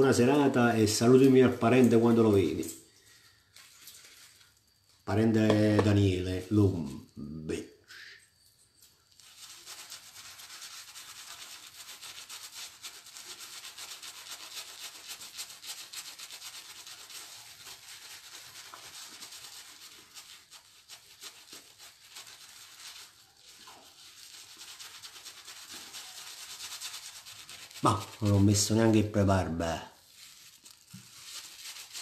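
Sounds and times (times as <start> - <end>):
shaving brush scrubbing on face: 0.0 - 2.8, 3.5 - 4.7, 9.1 - 32.0.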